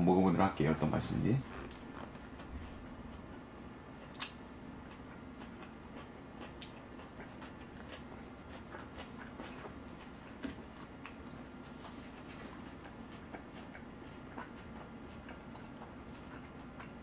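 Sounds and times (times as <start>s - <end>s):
chewing and mouth clicks: 1.5s - 17.0s.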